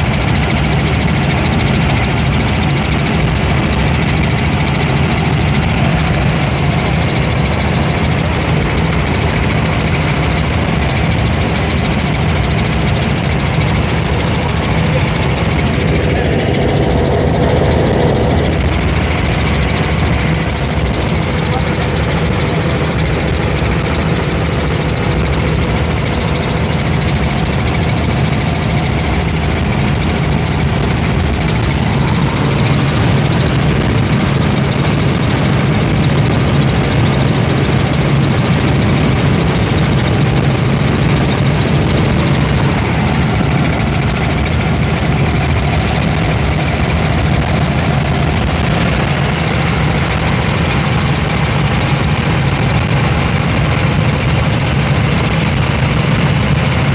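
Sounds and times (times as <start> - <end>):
helicopter cabin noise: 0.0 - 56.9.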